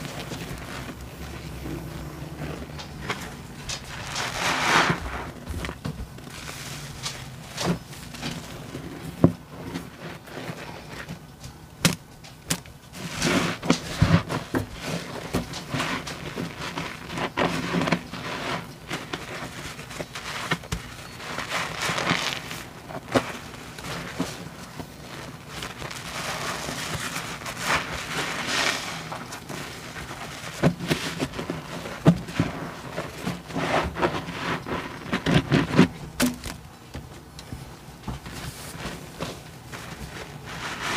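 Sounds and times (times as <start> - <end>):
soapy sponges squishing: 0.0 - 11.2, 12.9 - 36.1, 38.2 - 40.9.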